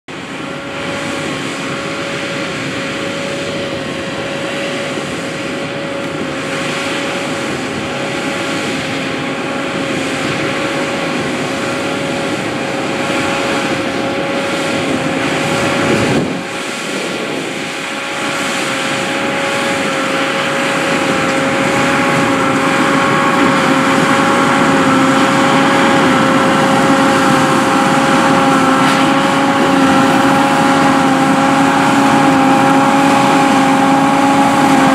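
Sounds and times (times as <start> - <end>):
tractor engine running: 0.0 - 34.9
baler whine: 0.1 - 34.9.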